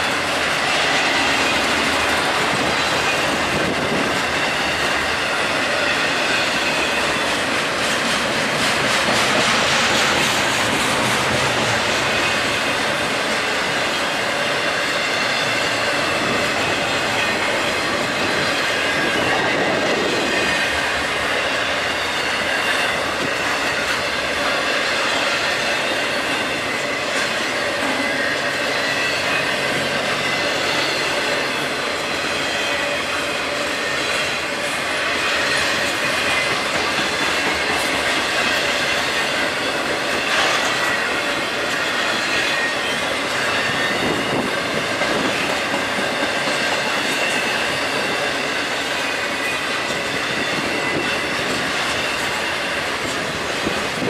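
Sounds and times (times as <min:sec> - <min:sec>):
steel wheels on rail: 0:00.0 - 0:54.0.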